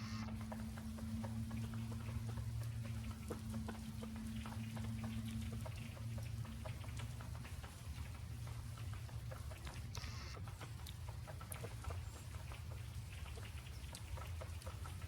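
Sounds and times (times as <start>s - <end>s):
steady low hum: 0.0s - 15.0s
woodpecker tapping wood: 0.0s - 15.0s.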